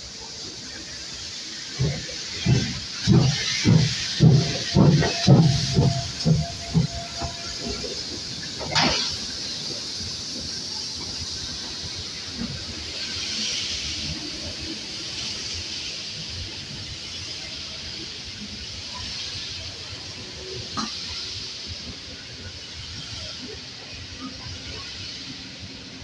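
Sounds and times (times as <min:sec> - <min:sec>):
steam hissing: 0:00.0 - 0:26.0
train rolling past: 0:00.0 - 0:26.0.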